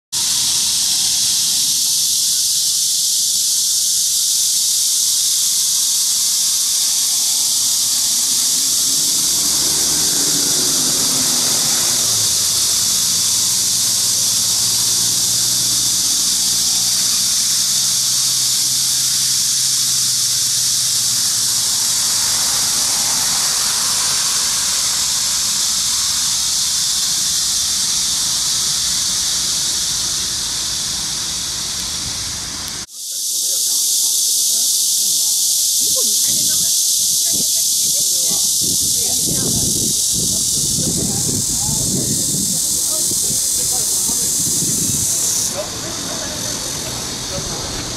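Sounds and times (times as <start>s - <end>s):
cicadas buzzing in chorus: 0.0s - 47.9s.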